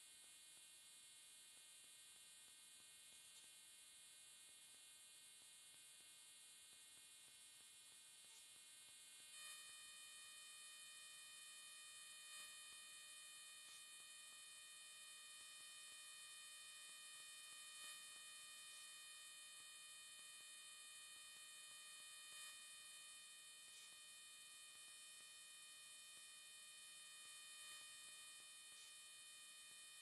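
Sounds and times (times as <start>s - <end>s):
faint high-pitched whine with hiss: 0.0s - 30.0s.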